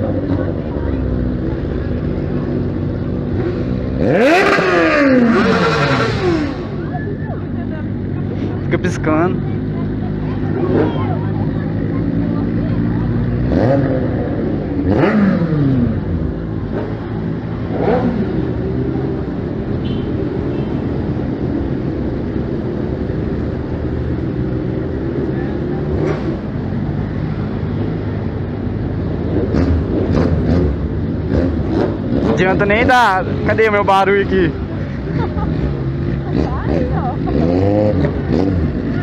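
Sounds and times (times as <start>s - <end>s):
motorcycle engines running: 0.0s - 39.0s.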